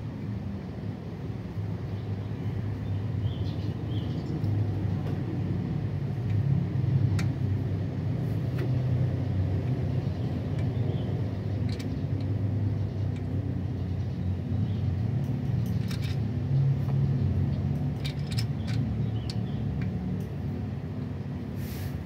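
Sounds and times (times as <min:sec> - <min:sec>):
low motor vehicle rumble: 0:00.0 - 0:22.0.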